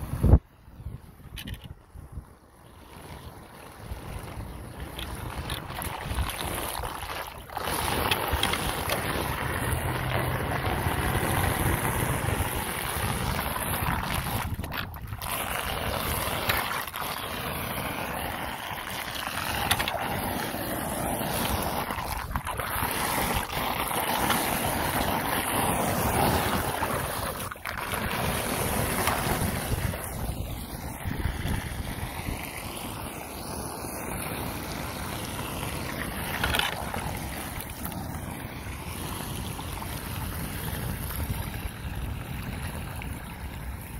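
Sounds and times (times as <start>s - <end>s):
wind noise on microphone: 0.0s - 43.9s
water pouring down storm drain: 2.5s - 43.9s.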